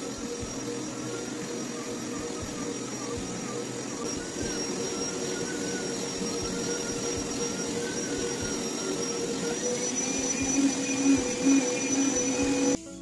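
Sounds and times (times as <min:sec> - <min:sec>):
carpet cleaner motor whine: 0:00.0 - 0:13.0.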